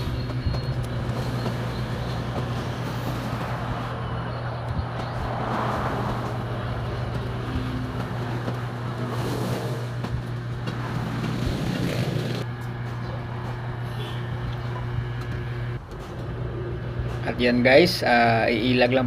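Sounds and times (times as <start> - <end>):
low mechanical hum: 0.0 - 18.9.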